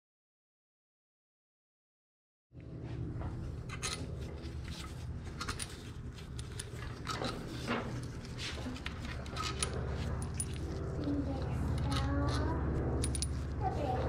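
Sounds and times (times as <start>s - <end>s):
steady low hum: 2.6s - 14.0s.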